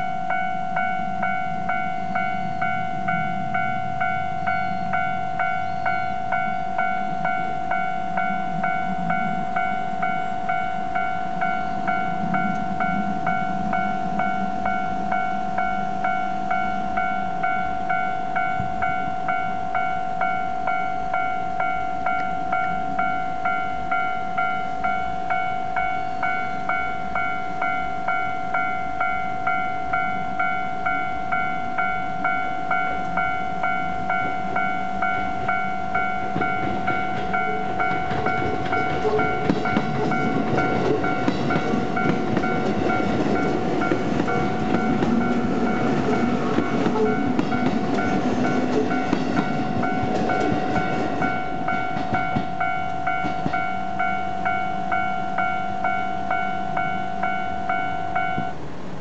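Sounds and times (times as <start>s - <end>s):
level-crossing alarm bell: 0.0s - 58.8s.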